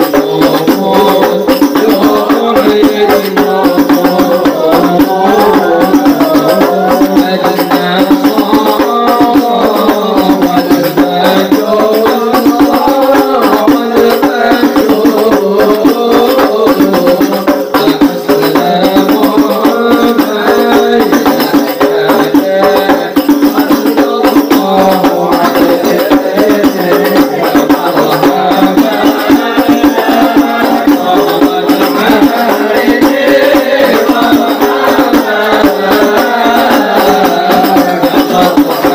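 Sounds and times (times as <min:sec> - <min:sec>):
frame drums beating fast: 0:00.0 - 0:38.9
voices chanting together: 0:00.0 - 0:38.9.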